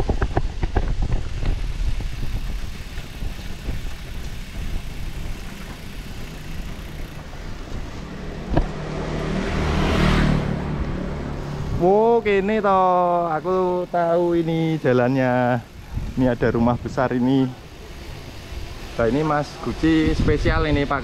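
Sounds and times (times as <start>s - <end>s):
bicycle tyres rumbling: 0.0s - 21.0s.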